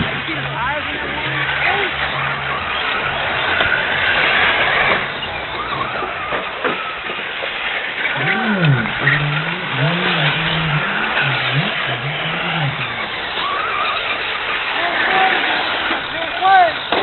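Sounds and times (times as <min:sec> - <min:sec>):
other cars: 0:00.0 - 0:17.0
race car engine revving: 0:00.0 - 0:17.0.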